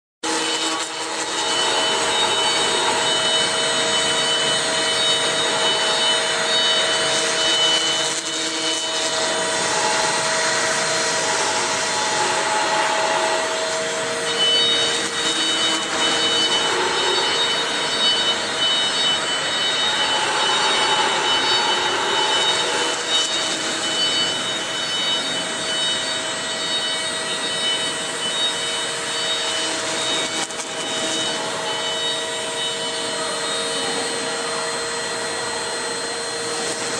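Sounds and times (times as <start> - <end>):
high spindle whine: 0.2 - 36.9
router bit cutting foam: 0.2 - 36.9.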